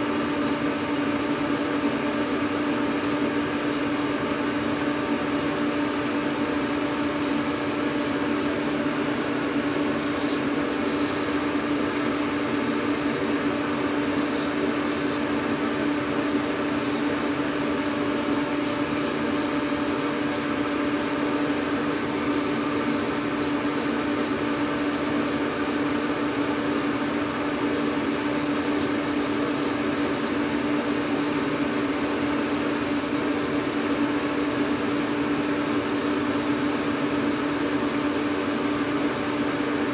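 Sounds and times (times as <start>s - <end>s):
fan humming: 0.0s - 39.9s.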